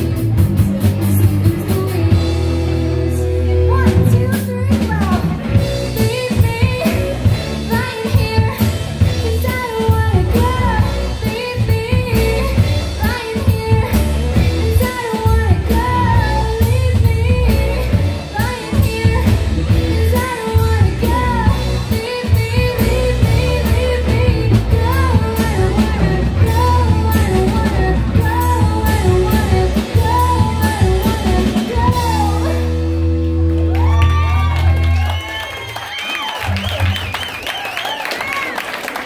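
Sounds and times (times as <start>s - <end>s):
woman singing: 0.0s - 33.2s
electric bass: 0.0s - 35.5s
electric guitar: 0.0s - 35.7s
drum kit: 0.0s - 38.4s.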